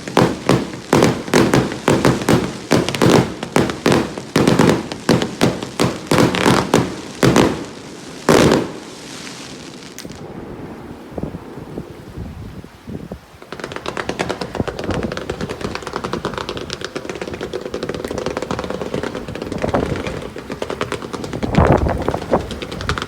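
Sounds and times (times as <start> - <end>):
firework hiss: 0.0 - 23.0
fireworks bangs: 0.0 - 23.0.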